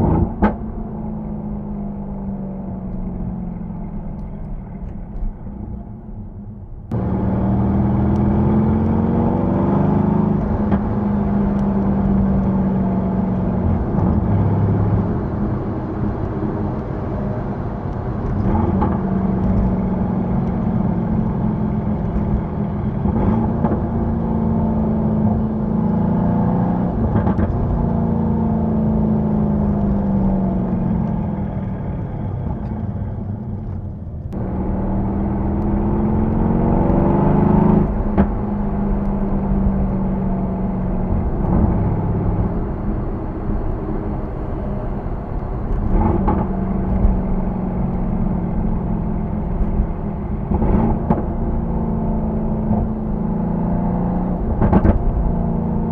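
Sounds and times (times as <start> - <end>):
car engine drone: 0.0 - 55.9.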